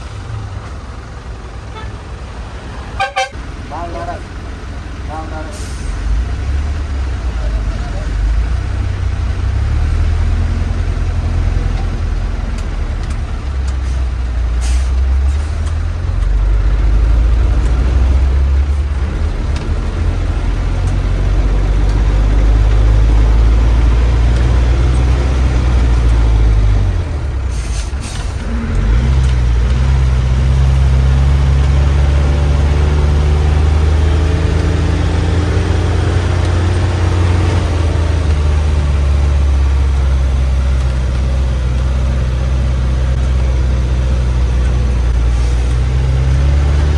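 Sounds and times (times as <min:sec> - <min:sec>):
bus diesel engine labouring: 0:00.0 - 0:46.9.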